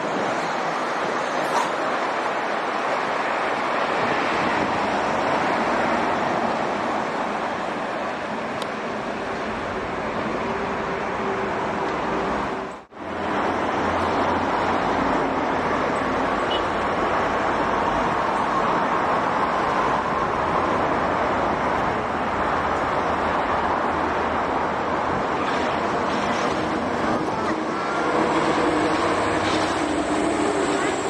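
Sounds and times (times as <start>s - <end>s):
highway traffic rushing: 0.0s - 31.0s.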